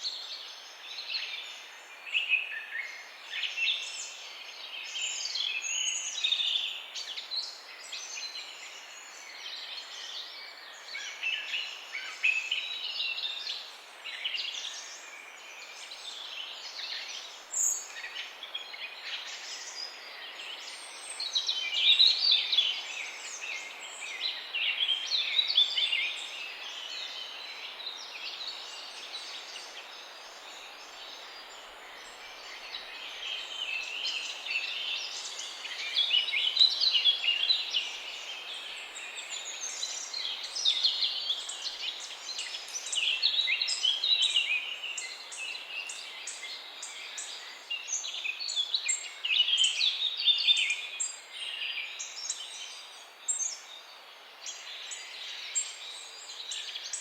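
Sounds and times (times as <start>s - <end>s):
background hiss: 0.0s - 57.0s.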